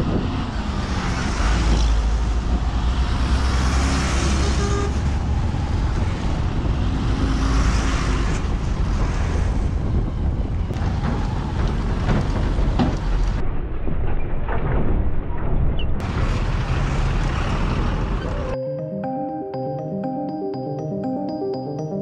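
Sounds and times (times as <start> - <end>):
trucks passing: 0.0 - 13.4, 16.0 - 22.0
vehicle road noise rumbling: 0.0 - 18.6.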